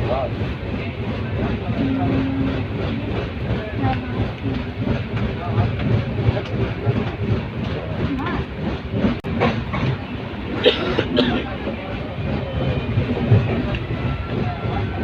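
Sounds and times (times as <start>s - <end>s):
train rumble: 0.0s - 15.0s
wheels clattering over rail joints: 0.0s - 15.0s.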